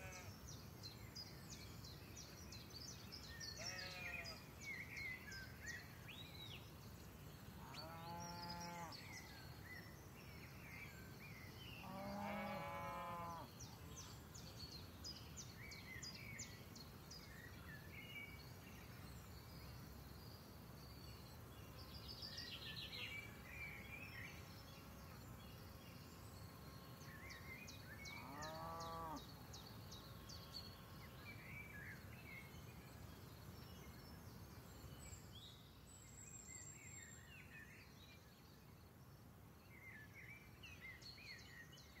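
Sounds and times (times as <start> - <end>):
faint birds chirping: 0.0 - 42.0.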